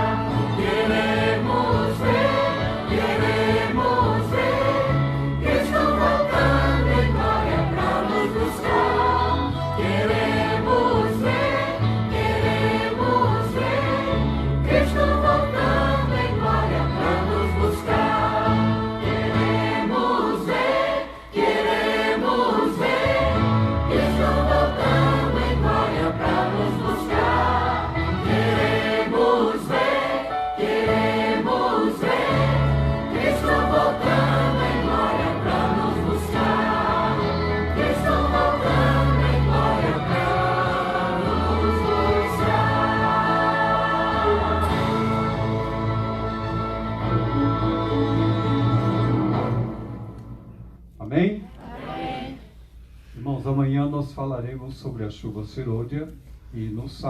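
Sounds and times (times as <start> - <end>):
choir singing a hymn: 0.0 - 50.1.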